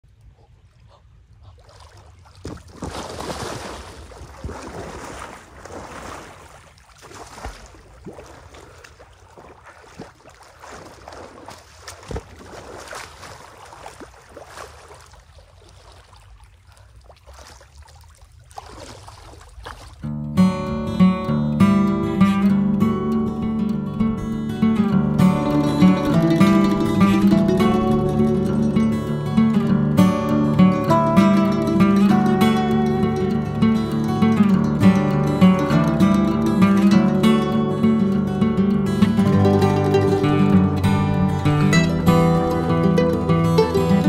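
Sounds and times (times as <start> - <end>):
lake water splashing and lapping: 0.0 - 20.4, 21.9 - 44.0.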